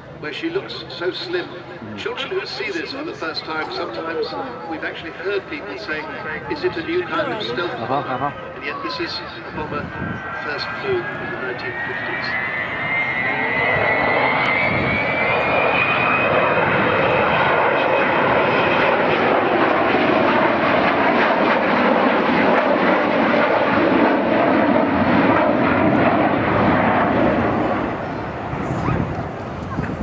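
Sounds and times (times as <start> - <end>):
jet bomber roar: 0.0 - 30.0.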